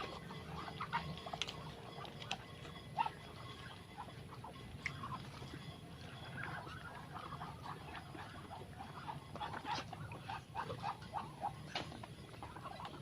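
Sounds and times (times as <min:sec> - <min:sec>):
ducks making soft calls: 0:00.0 - 0:13.0.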